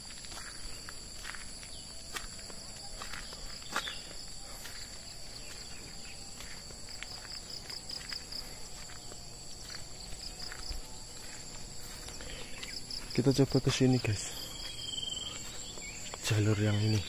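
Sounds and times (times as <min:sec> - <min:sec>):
footsteps on dirt trail: 0:00.0 - 0:17.0
insects droning: 0:00.0 - 0:17.0.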